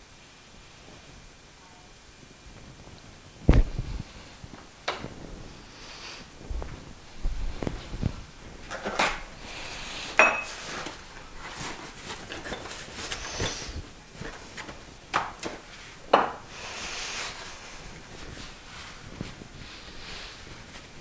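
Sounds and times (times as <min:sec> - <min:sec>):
rustling: 0:02.5 - 0:21.0.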